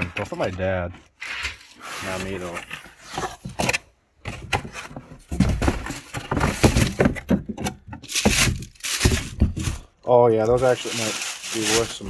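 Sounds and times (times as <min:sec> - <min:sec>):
cardboard box rustling: 0:00.0 - 0:12.0.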